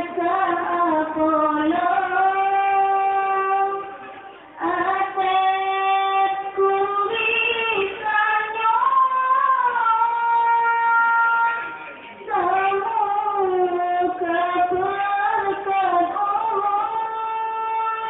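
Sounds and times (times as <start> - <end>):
high voice singing devotional song: 0.0 - 18.0.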